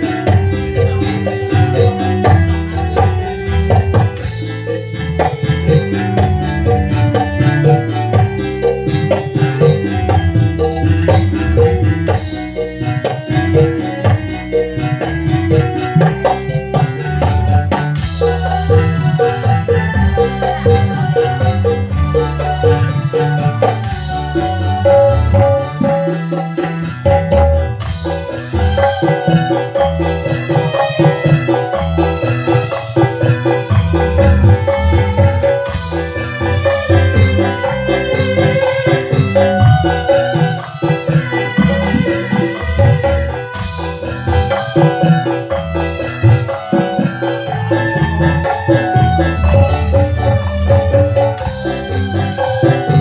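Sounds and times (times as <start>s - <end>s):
electronic keyboard melody: 0.0s - 53.0s
hand drums playing: 0.0s - 53.0s.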